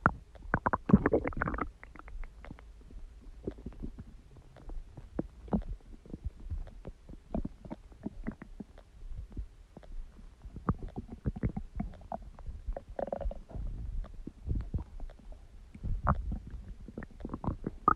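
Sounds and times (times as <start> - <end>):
stomach growling and gurgling: 0.0 - 17.9.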